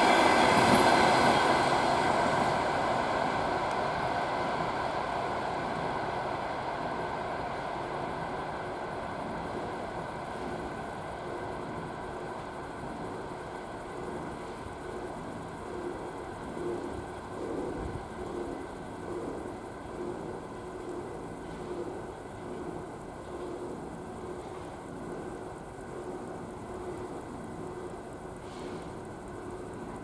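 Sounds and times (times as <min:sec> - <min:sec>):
train coaches rumbling on rails: 0:00.0 - 0:30.0.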